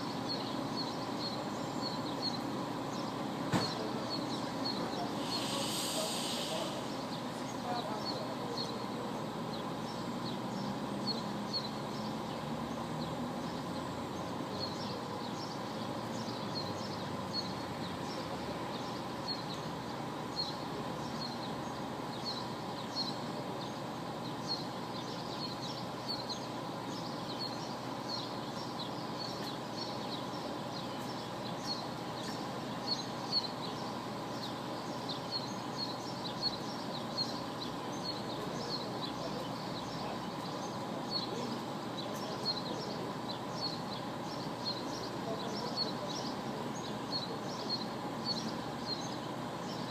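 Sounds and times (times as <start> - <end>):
diesel engines idling: 0.0 - 49.9
small birds chirping: 0.0 - 49.9.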